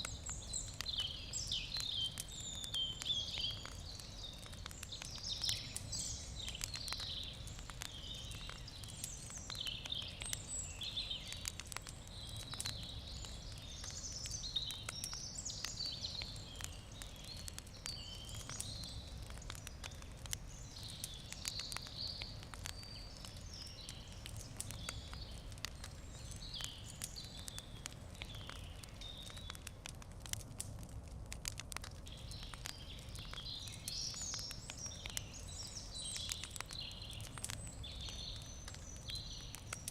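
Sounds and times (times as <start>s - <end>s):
birds chirping: 0.0s - 29.6s, 32.0s - 39.9s
campfire crackling and popping: 0.0s - 39.9s.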